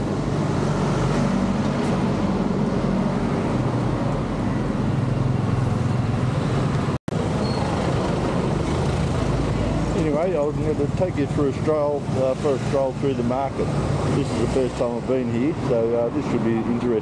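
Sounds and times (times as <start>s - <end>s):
road noise: 0.0s - 17.0s
traffic engine hum: 0.0s - 17.0s.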